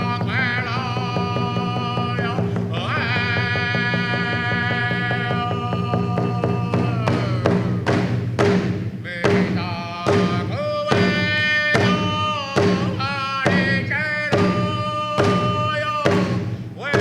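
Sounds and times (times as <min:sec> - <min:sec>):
high singing voice: 0:00.0 - 0:08.0, 0:09.1 - 0:17.0
drum beating steadily: 0:00.0 - 0:17.0.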